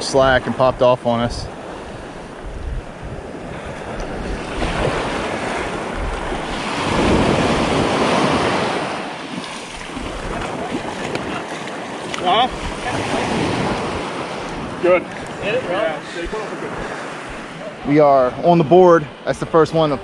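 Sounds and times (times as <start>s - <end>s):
wind buffeting microphone: 0.0s - 20.0s
small waves breaking on beach: 0.1s - 20.0s.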